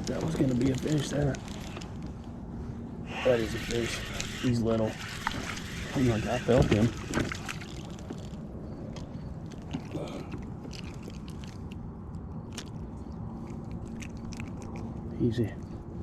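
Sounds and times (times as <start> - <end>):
fishing gear clicks and scrapes: 0.0 - 2.1, 3.3 - 15.7
steady low rumble: 0.0 - 16.0.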